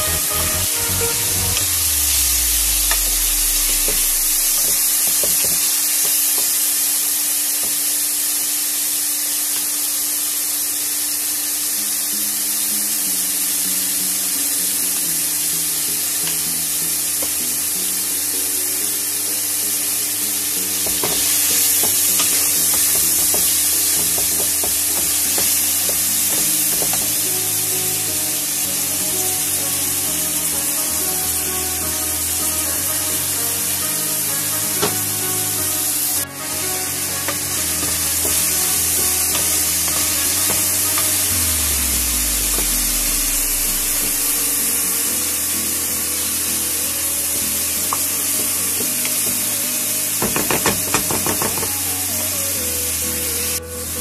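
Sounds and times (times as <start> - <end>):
background music: 0.0 - 5.2, 13.2 - 54.0
chicken sizzling in a pot: 0.0 - 54.0.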